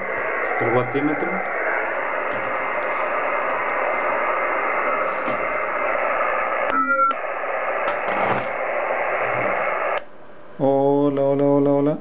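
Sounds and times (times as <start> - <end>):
radio loudspeaker hissing: 0.0 - 11.8.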